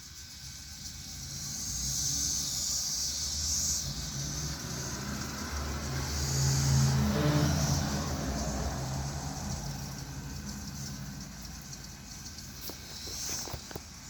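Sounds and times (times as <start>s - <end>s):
high hiss: 0.0s - 14.0s
vehicle engine hum passing: 0.8s - 14.0s.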